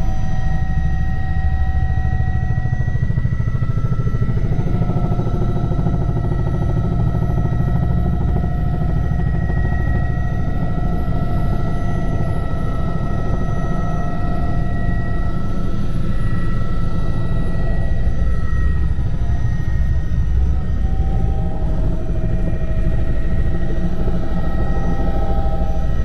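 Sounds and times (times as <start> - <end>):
helicopter rotor rumble: 0.0 - 26.0
helicopter whine: 0.0 - 26.0.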